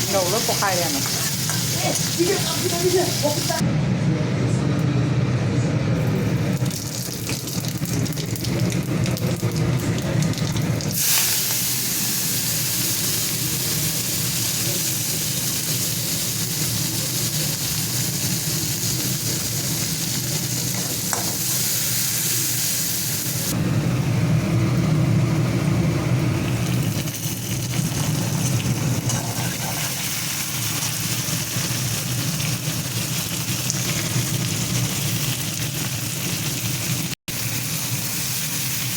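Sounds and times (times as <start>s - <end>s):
food sizzling in hot oil: 0.0s - 3.6s, 6.3s - 23.6s, 24.7s - 38.9s.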